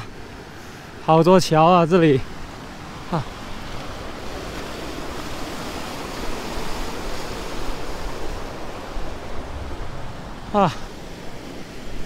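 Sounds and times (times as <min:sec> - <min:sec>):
fast-flowing creek rushing: 0:00.0 - 0:12.0.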